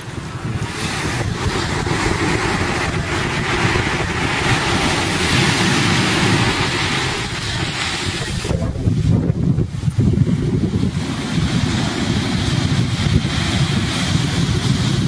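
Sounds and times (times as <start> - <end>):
ocean surf breaking: 0.0 - 15.0
wind rumbling on microphone: 0.0 - 15.0.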